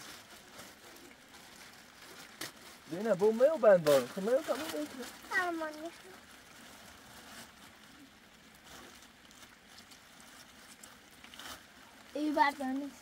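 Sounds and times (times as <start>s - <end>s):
faint rustles and handling noises: 0.0s - 13.0s.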